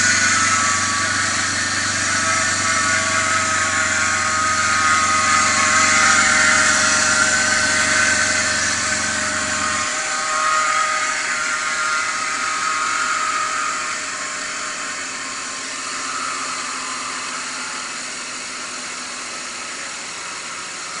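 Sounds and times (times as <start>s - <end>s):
car engine running: 0.0s - 21.0s
low hum: 0.0s - 21.0s
pulley whine: 0.0s - 21.0s.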